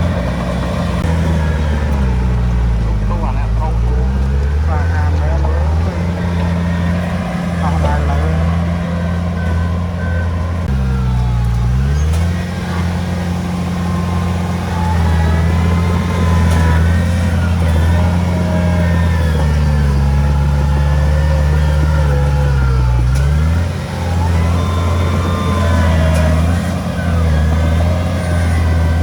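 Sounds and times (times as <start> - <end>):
heavy diesel engine under load: 0.0 - 29.0.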